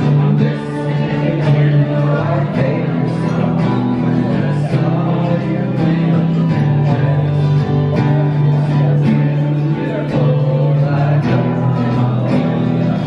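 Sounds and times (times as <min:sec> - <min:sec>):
live guitar music: 0:00.0 - 0:13.0.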